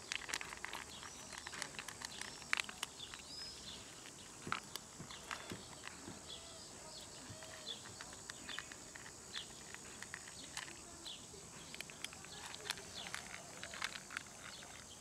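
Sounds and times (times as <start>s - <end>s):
kittens licking and chewing food: 0.0s - 15.0s
small birds chirping: 0.0s - 15.0s.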